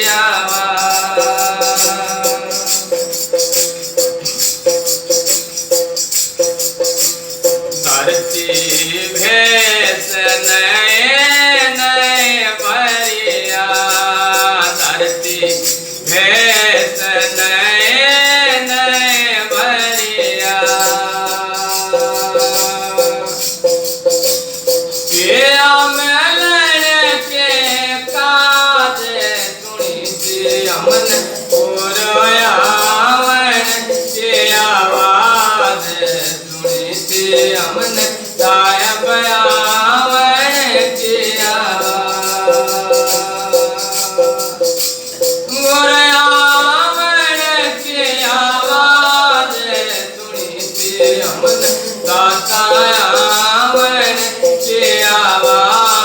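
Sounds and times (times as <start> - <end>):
jingling percussion: 0.0 - 56.0
shaker and tambourine: 0.0 - 56.0.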